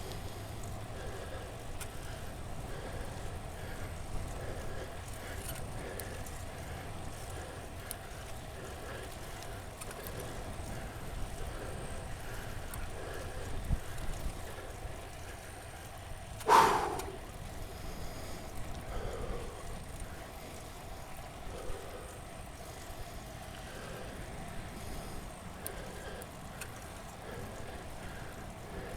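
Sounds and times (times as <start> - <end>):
bicycle road and wind noise: 0.0 - 28.9
cyclist breathing hard: 0.0 - 28.9.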